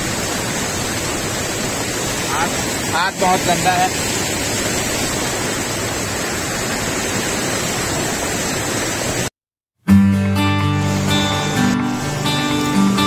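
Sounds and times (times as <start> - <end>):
waterfall rushing over rocks: 0.0 - 9.3, 10.8 - 13.0.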